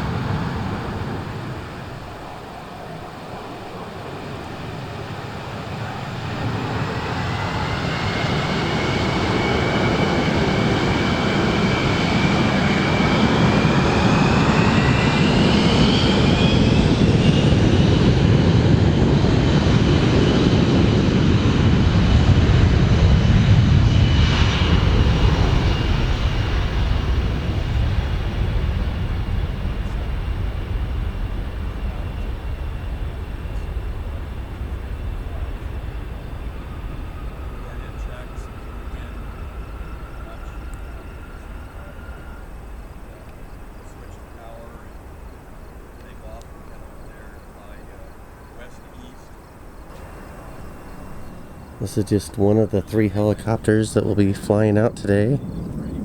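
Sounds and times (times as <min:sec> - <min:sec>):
high engine whine: 0:00.0 - 0:56.0
jet engine roar: 0:00.0 - 0:56.0.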